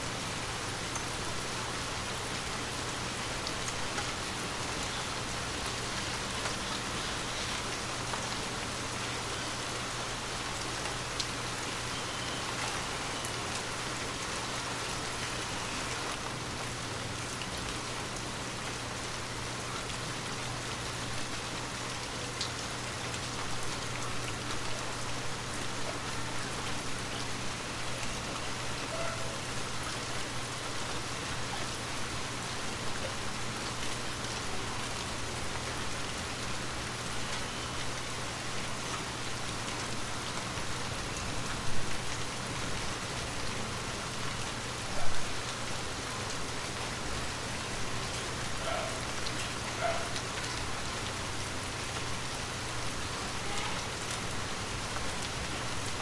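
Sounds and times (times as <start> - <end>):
light rain on a window: 0.0 - 56.0.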